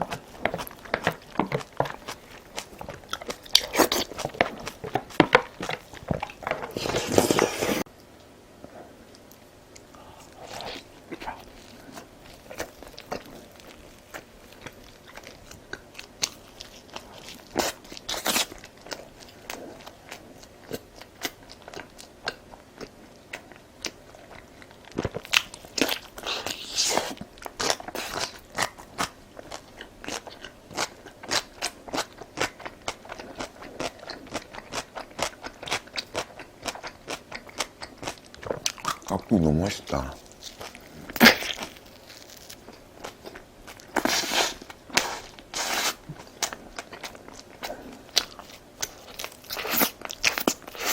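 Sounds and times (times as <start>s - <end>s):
person chewing crunchy food: 0.0s - 7.9s, 8.6s - 50.9s.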